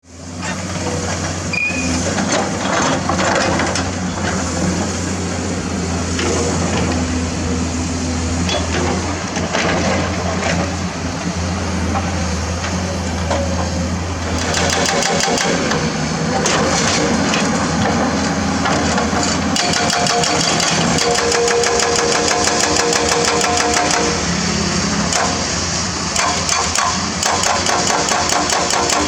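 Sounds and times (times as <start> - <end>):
excavator diesel engine running: 0.1 - 29.0.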